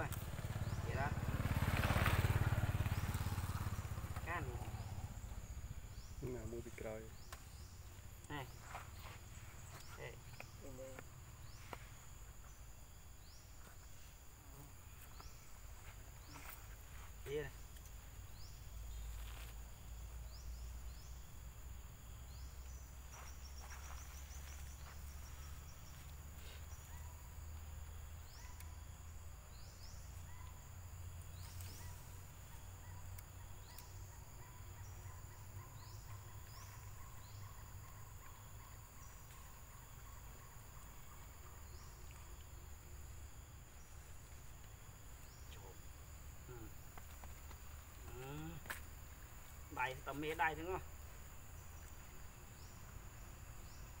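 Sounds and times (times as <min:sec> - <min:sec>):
high insect drone: 0:00.0 - 0:54.0.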